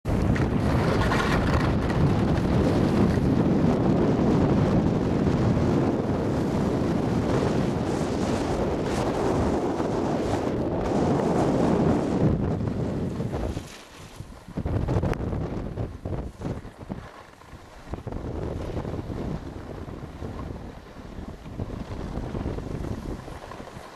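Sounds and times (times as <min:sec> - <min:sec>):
wind buffeting microphone: 0:00.0 - 0:23.9
ski edges scraping snow: 0:00.4 - 0:03.4, 0:06.3 - 0:15.0, 0:16.0 - 0:23.9.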